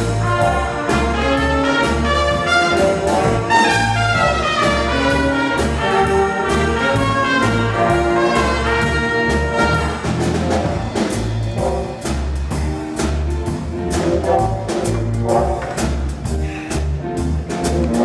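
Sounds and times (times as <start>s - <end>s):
big band playing jazz: 0.0s - 18.0s.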